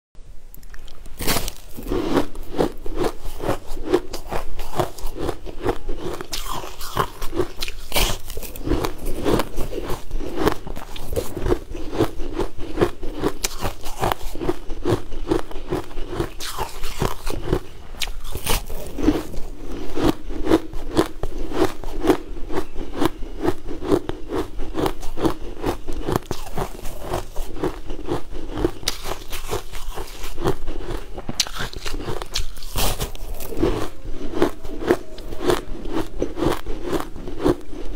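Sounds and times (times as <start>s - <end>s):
crunching ice bar: 0.8s - 37.9s.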